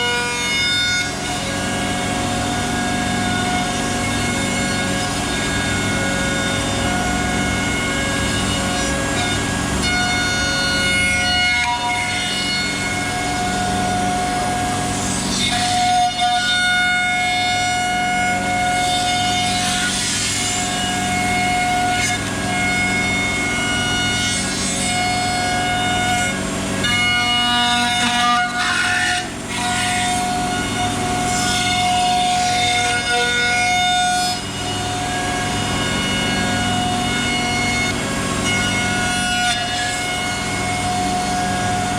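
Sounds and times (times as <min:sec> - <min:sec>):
cnc router machine whine: 0:00.0 - 0:41.9.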